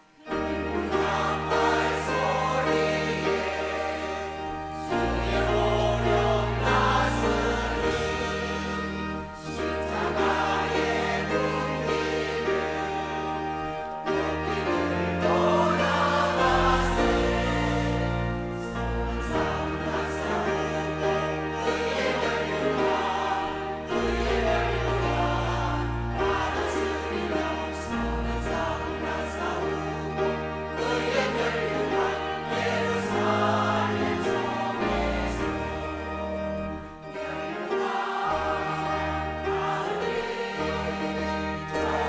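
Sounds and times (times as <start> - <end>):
choir singing a hymn: 0.0 - 42.0.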